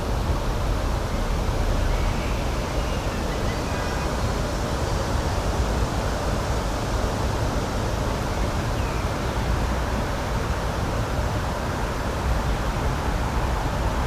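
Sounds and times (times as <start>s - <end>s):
outdoor nature ambience rushing: 0.0s - 14.0s.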